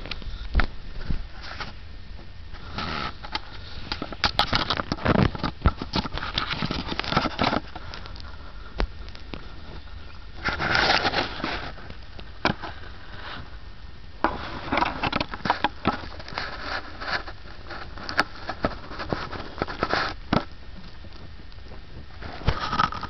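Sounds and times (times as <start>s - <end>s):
cats rustling and scratching: 0.0s - 13.6s, 14.2s - 23.0s.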